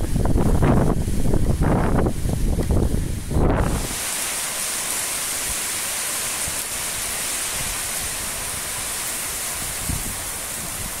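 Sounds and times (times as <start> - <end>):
wind buffeting microphone: 0.0 - 4.2, 6.4 - 11.0
heavy rain: 0.0 - 11.0.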